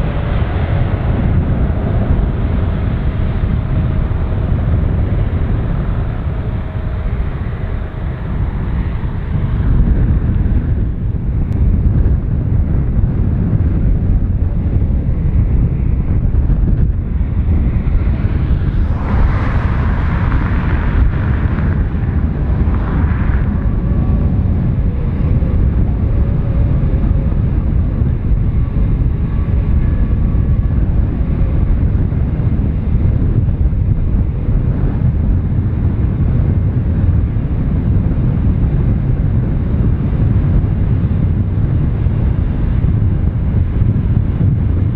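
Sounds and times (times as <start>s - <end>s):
jet engines rumbling: 0.0s - 44.9s
wind buffeting microphone: 0.0s - 44.9s.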